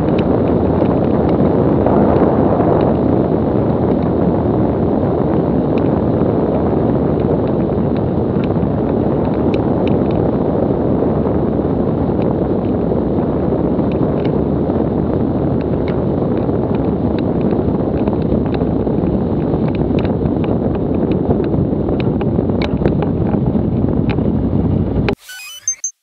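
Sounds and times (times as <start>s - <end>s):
wind rush on microphone: 0.0s - 25.2s.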